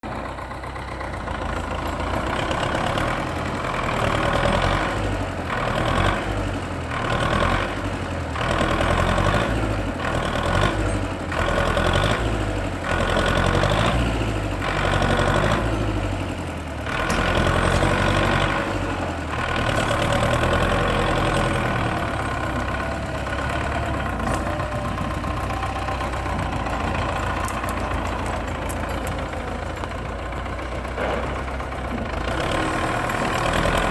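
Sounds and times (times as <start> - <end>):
tractor diesel engine surging: 0.0 - 33.9.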